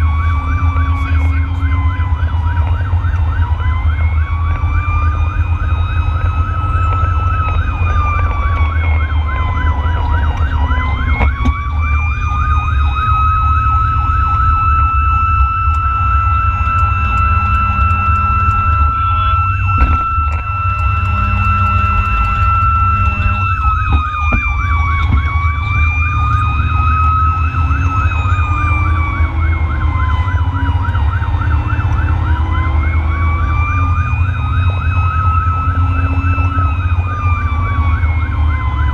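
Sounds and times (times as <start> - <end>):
truck engine rumble and road noise: 0.0 - 38.9
wailing siren: 0.0 - 38.9
warbling siren: 0.0 - 38.9.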